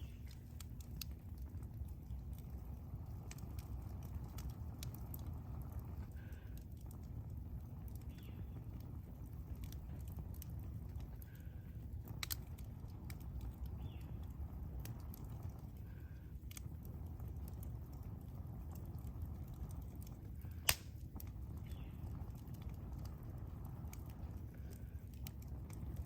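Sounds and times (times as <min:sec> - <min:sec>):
campfire low rumble: 0:00.0 - 0:26.0
fire crackles and pops: 0:00.0 - 0:26.0.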